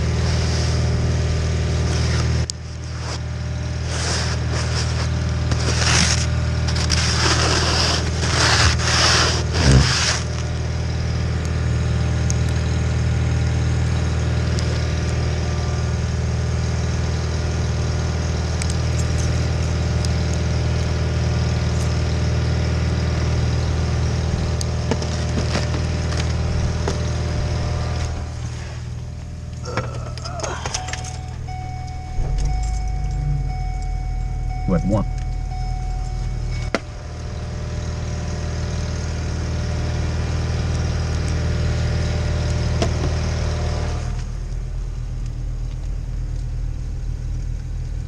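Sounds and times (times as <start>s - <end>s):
garden tractor engine running: 0.0s - 48.0s.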